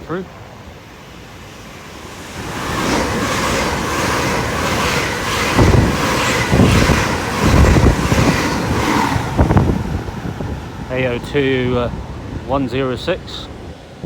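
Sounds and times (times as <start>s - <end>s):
train wheels rushing on rails: 0.0s - 14.0s
wind buffeting microphone: 0.1s - 14.0s.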